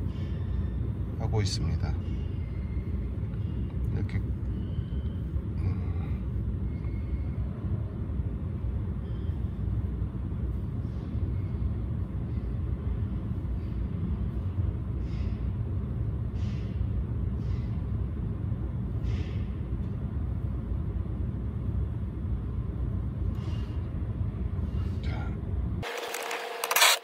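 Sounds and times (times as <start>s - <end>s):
low background rumble: 0.0s - 25.8s.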